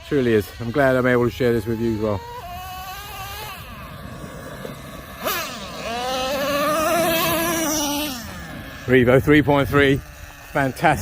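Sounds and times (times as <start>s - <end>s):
model truck engine whining: 0.0s - 11.0s.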